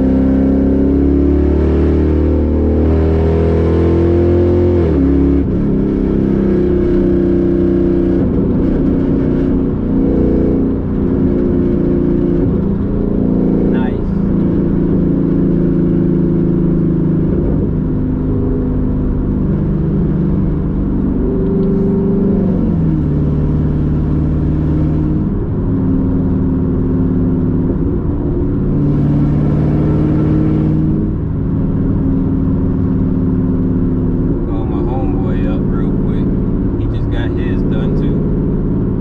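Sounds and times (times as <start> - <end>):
car engine accelerating: 0.0 - 39.0
road rumble: 0.0 - 39.0.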